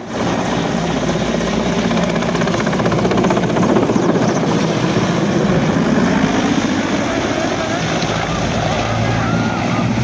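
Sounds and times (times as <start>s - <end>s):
helicopter engine noise: 0.0s - 10.0s
helicopter rotor beating: 0.0s - 10.0s.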